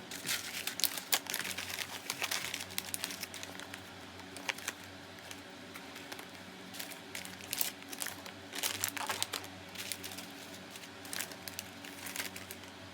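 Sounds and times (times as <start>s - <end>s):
packaging crinkling: 0.1s - 12.8s.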